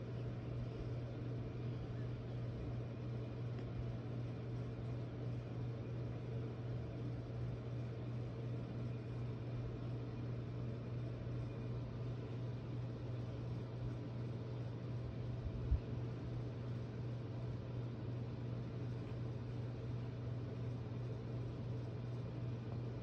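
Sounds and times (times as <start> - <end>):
steady low hum with hiss: 0.0 - 23.0.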